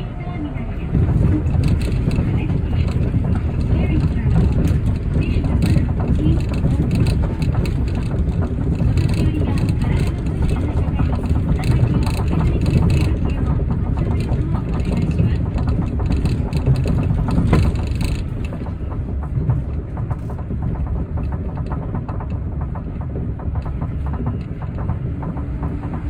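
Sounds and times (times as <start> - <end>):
train low rumble: 0.0 - 26.0
fine rapid ticking: 0.8 - 26.0.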